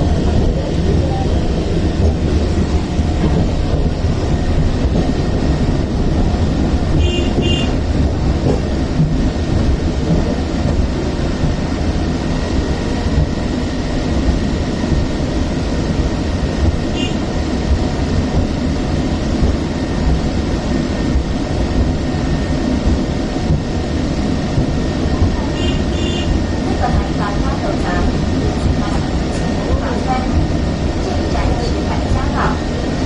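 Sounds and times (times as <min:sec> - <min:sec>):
tram car rumble: 0:00.0 - 0:33.0.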